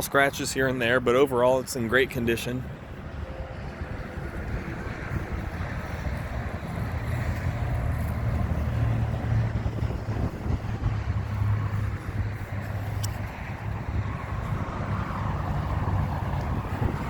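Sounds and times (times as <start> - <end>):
low engine hum: 0.0 - 17.0
wind rumbling on microphone: 2.6 - 17.0.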